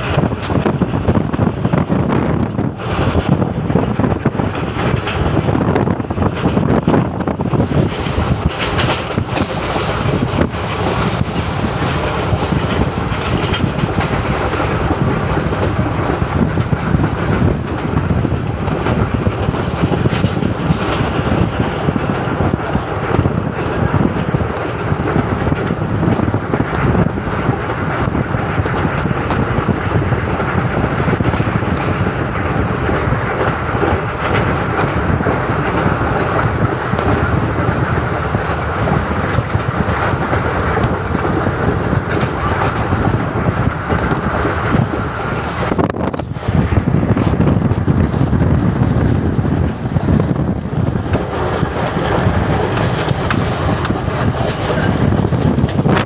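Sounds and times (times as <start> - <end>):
train wheels rumbling and rattling: 0.0 - 56.0.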